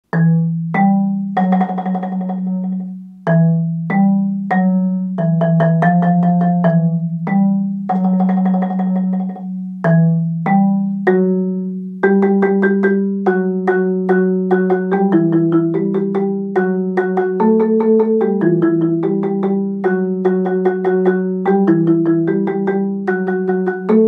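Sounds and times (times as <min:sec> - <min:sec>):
marimba melody played with mallets: 0:00.0 - 0:24.0.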